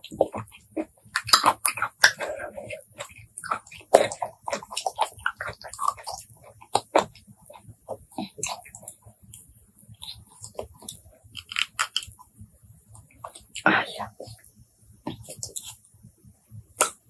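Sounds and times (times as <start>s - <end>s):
wet chewing: 0.0s - 15.8s.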